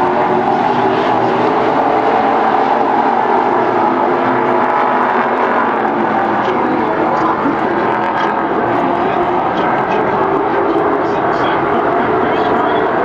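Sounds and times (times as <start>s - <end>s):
race truck engines roaring: 0.0s - 13.0s.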